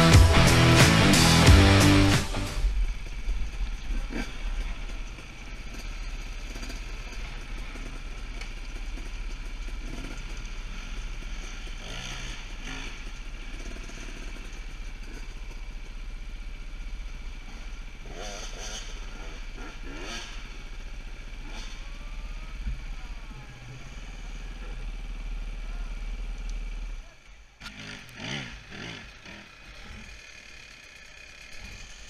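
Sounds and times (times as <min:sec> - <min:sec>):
distant dirt bikes running: 0:00.0 - 0:32.0
motorcycle idling: 0:00.0 - 0:32.0.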